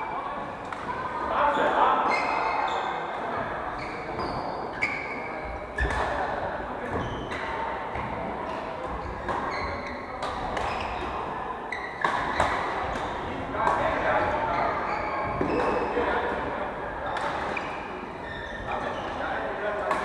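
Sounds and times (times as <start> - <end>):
murmur of voices: 0.0 - 20.0.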